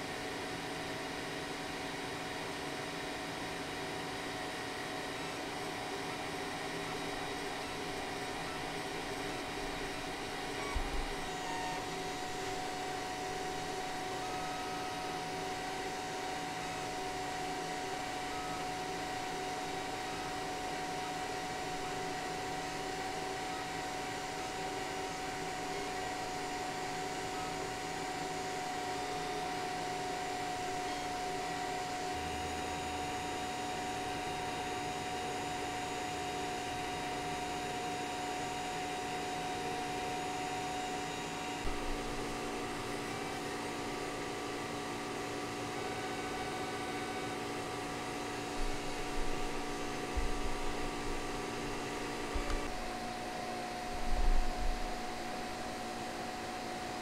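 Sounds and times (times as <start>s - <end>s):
electric cooling fans whirring: 0.0s - 57.0s
constant hum: 4.2s - 57.0s.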